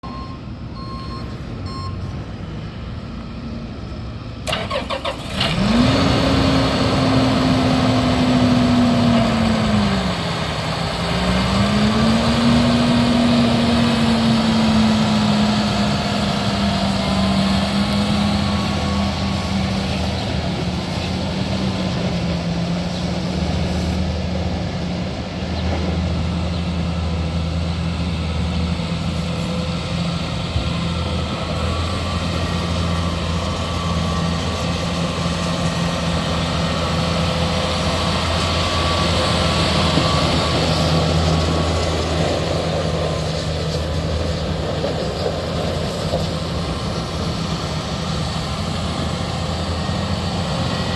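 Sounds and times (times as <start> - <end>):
tractor diesel engine starting: 0.0 - 50.9.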